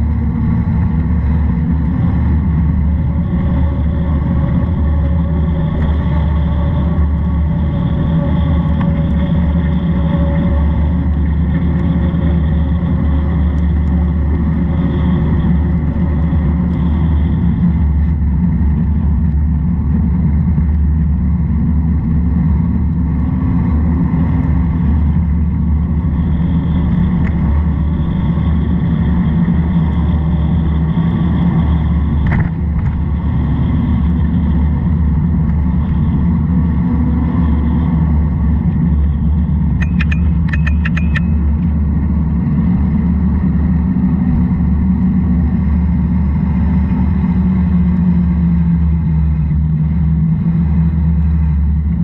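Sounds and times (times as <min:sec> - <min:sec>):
vehicle rumbling on wet road: 0:00.0 - 0:52.0.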